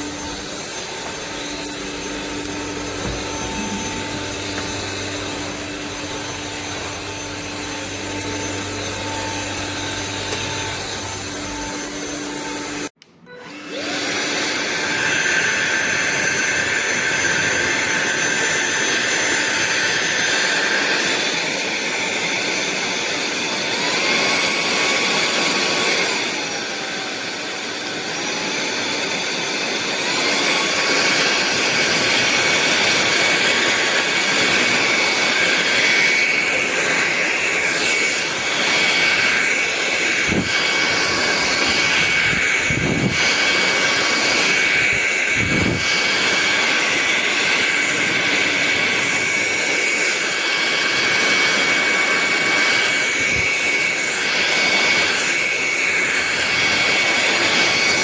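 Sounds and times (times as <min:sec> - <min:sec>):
stick vacuum running: 0:00.0 - 0:58.0.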